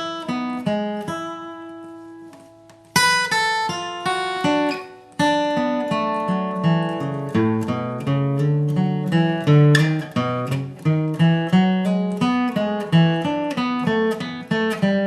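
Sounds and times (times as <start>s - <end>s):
acoustic guitar flatpicking melody: 0.0s - 15.0s.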